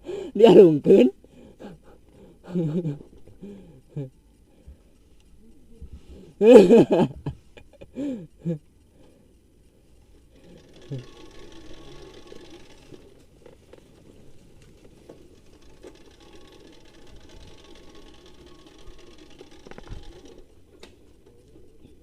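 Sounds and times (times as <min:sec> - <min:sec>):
faint motorcycle engine running: 0:00.7 - 0:22.0.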